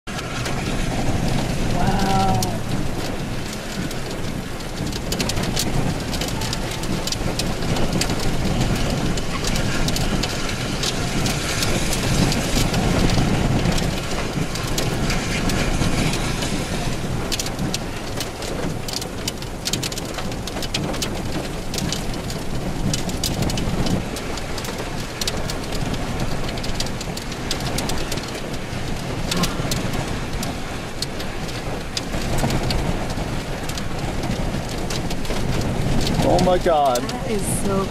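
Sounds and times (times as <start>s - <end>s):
raindrops ticking near microphone: 0.1s - 37.9s
steady rain falling: 0.1s - 37.9s.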